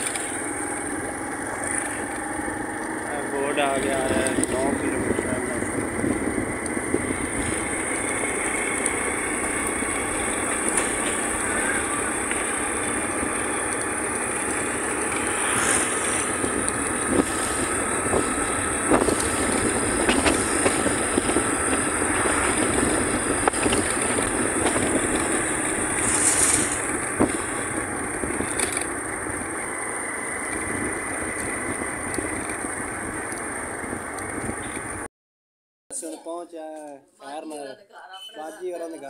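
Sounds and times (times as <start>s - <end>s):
vehicle engine and road noise: 0.0s - 35.1s.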